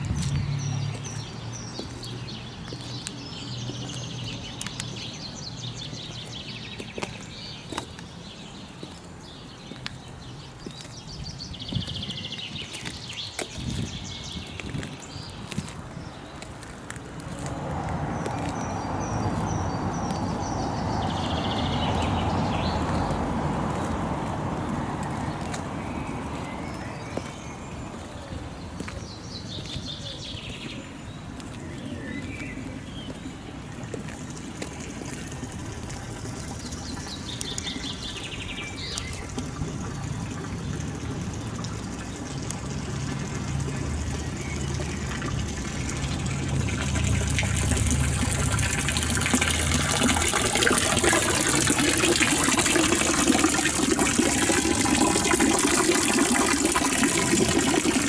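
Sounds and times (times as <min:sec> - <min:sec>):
birds chirping: 0:00.0 - 0:58.0
running water: 0:00.0 - 0:58.0.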